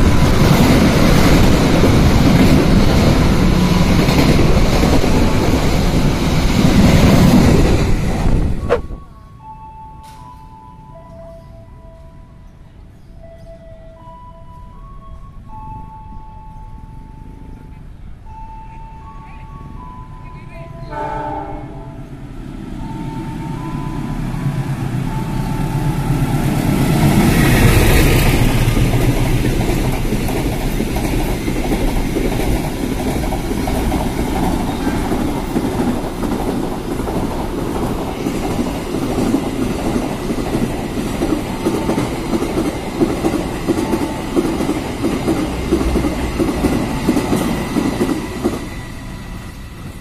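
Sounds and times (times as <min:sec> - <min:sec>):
diesel locomotive passing: 0:00.0 - 0:50.0.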